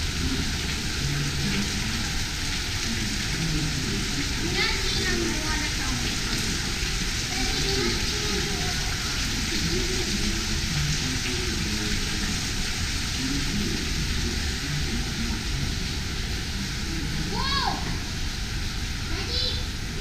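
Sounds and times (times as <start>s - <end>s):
faint voices: 0.0s - 20.0s
waterfall rushing into pool: 0.0s - 20.0s.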